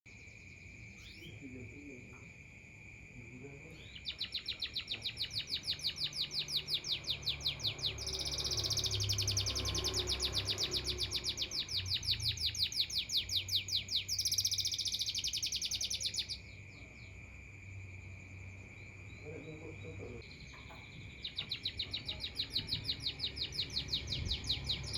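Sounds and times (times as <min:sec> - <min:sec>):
songbird trilling: 0:00.9 - 0:02.0, 0:03.6 - 0:17.2, 0:19.0 - 0:24.9.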